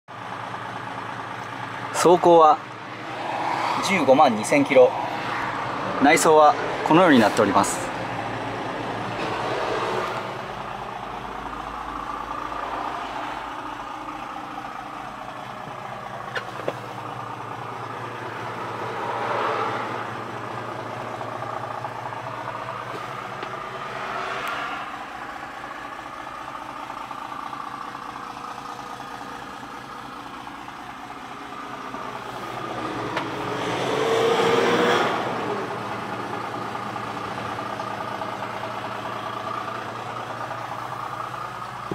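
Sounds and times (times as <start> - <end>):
diesel truck engine idling: 0.1 - 41.9
passing traffic: 0.1 - 41.9.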